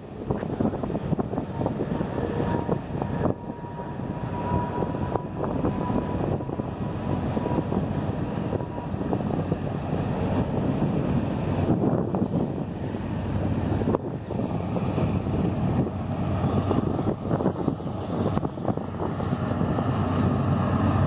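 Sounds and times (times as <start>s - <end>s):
train wheels rumbling and clattering: 0.0s - 21.0s
thin steady squeal: 0.6s - 19.2s.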